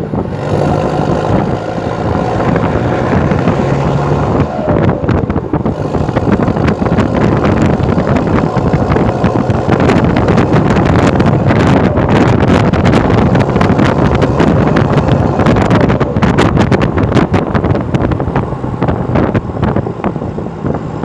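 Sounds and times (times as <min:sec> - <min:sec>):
unmuffled diesel engine exhaust: 0:00.0 - 0:21.0
wind noise: 0:00.0 - 0:21.0.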